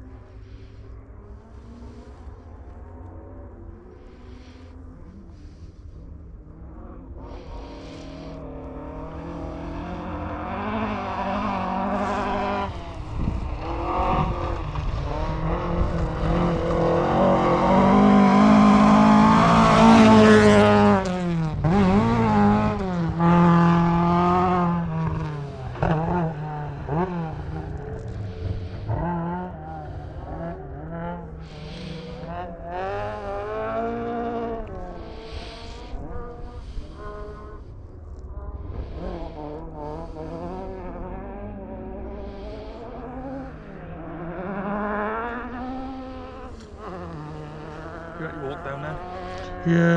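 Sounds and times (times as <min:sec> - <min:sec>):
rally car engine revving: 0:00.0 - 0:49.9.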